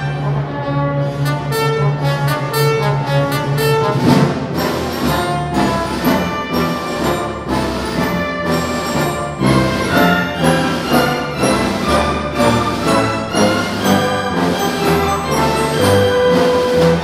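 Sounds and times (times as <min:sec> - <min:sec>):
symphony orchestra playing: 0:00.0 - 0:17.0.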